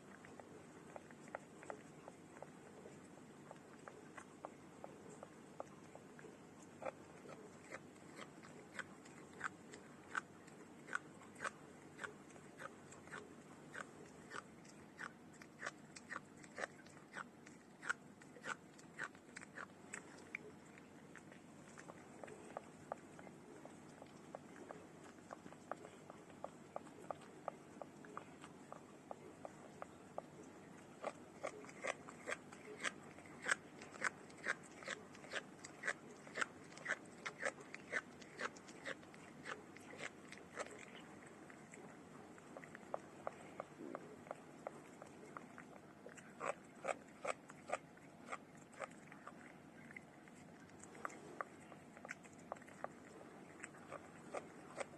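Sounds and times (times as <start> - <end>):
cat crunching dry food: 0.0 - 54.9.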